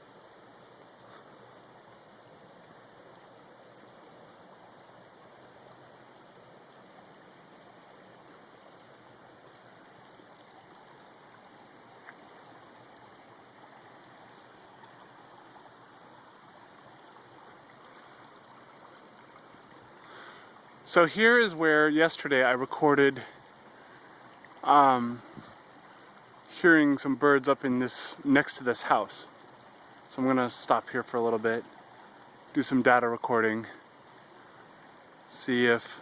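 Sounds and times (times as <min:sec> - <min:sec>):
creek water flowing: 0:00.0 - 0:36.0.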